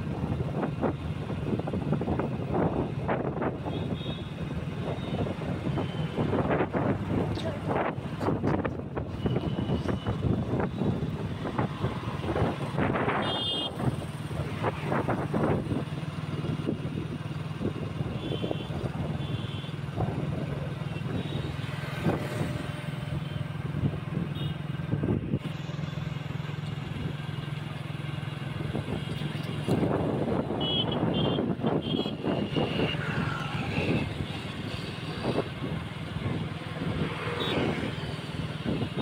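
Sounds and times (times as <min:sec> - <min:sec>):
wind and road noise: 0:00.0 - 0:39.0.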